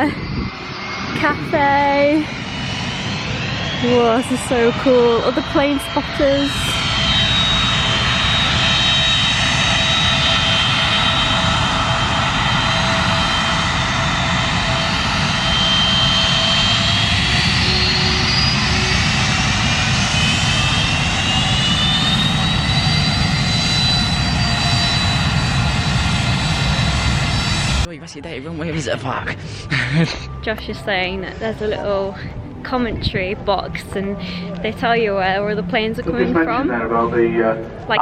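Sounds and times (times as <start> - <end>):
jet engines roaring with whine: 0.0 - 38.0.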